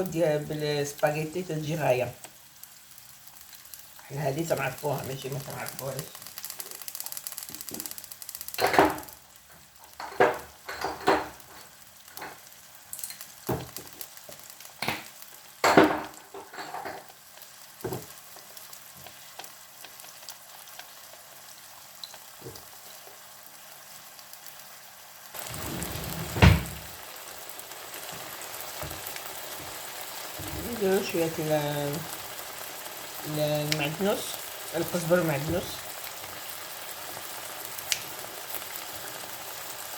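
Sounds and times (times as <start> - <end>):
food sizzling in oil: 0.0 - 39.9.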